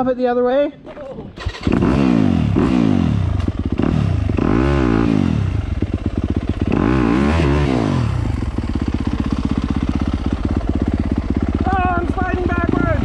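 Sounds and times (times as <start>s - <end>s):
dirt bike engine running: 1.3s - 13.0s.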